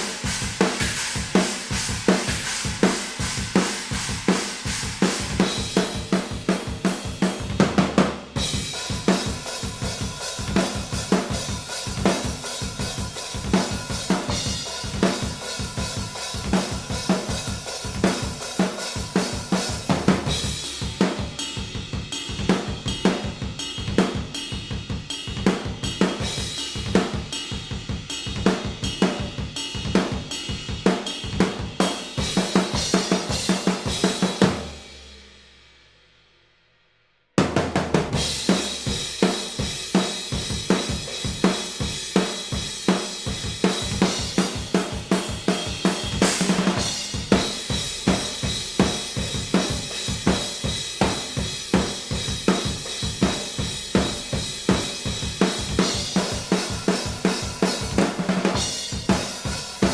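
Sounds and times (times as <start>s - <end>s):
acoustic drum kit groove: 0.0s - 35.3s, 37.4s - 59.9s.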